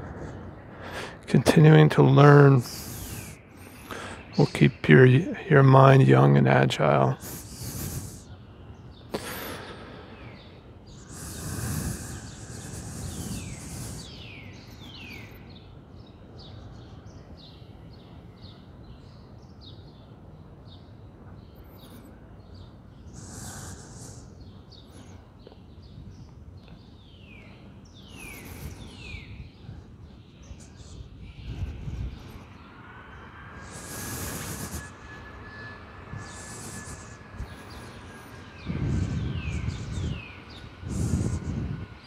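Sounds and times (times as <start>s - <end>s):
birds chirping: 0.0s - 42.0s
outdoor background noise: 0.0s - 42.0s.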